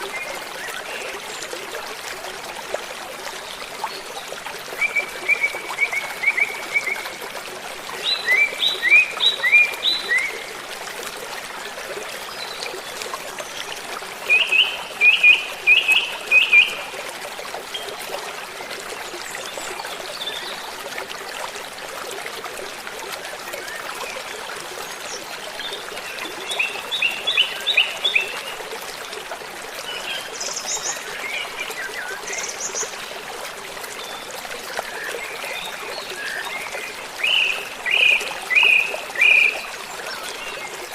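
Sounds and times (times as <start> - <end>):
running water hiss: 0.0 - 40.9.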